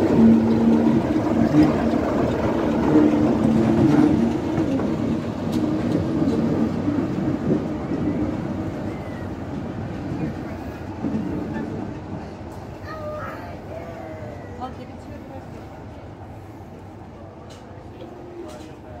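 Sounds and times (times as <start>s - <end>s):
diesel locomotive engine: 0.0s - 19.0s.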